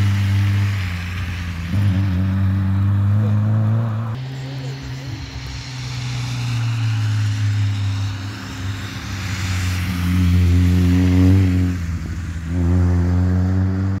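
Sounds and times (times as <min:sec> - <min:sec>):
rally car engine passing: 0:00.0 - 0:14.0.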